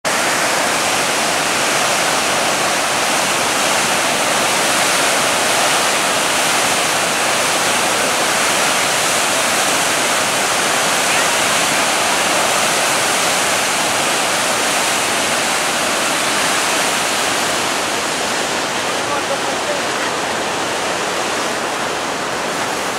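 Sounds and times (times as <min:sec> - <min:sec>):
water rushing through spillway: 0:00.0 - 0:22.9.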